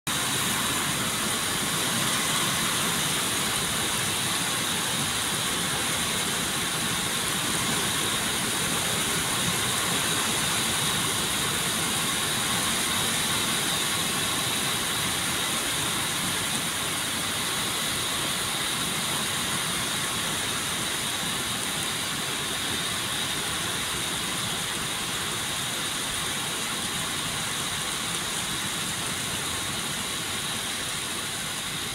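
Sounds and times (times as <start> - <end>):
heavy rain on metal roof: 0.1 - 31.9.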